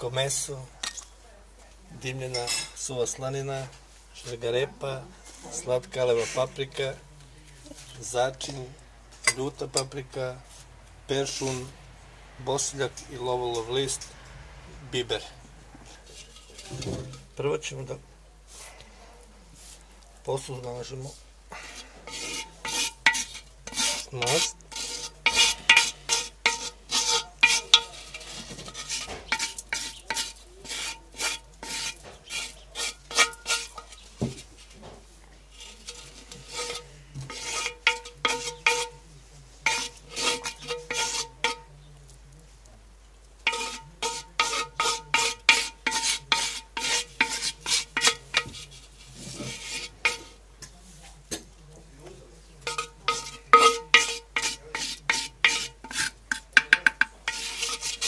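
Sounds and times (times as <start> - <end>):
wooden spoon scraping clay pot: 2.0 - 42.1, 43.4 - 58.0.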